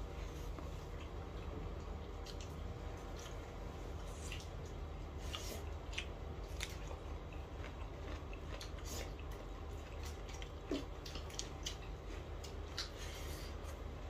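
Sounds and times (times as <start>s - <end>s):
low steady hum: 0.0s - 14.0s
person chewing: 0.2s - 13.9s.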